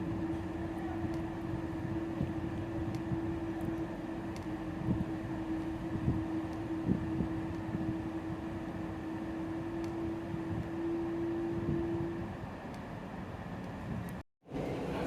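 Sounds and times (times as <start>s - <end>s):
constant hum: 0.0s - 15.0s
train coach running noise: 0.0s - 15.0s.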